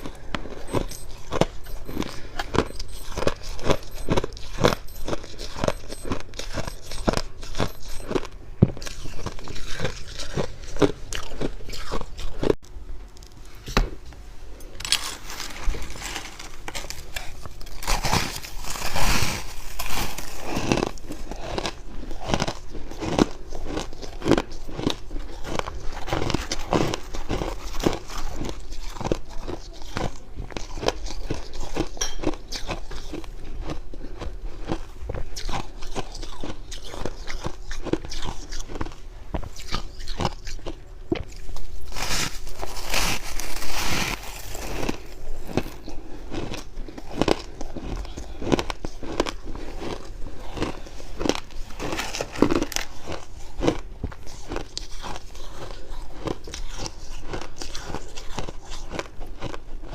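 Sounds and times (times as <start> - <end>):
chewing crunchy ice: 0.0 - 12.7, 14.8 - 59.9.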